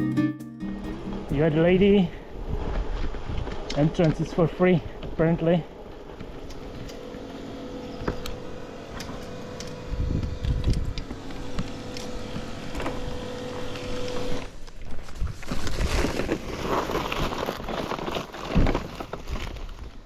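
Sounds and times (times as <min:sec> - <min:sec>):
low mechanical hum: 0:00.7 - 0:20.0.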